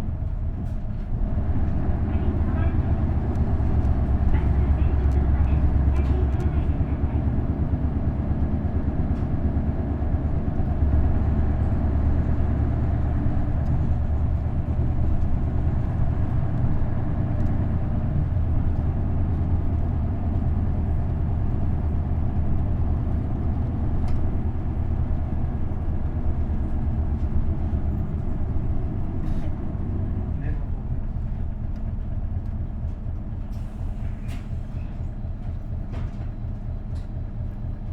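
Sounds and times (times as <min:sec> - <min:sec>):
bus diesel engine droning: 0:00.0 - 0:37.9
road noise: 0:00.0 - 0:37.9.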